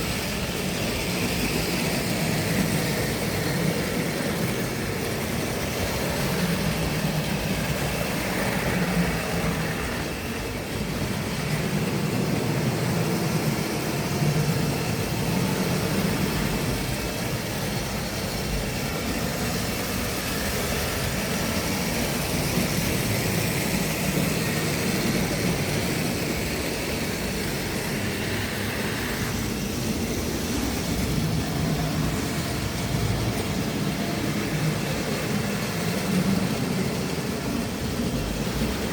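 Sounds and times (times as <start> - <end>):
model train running: 0.0 - 38.9.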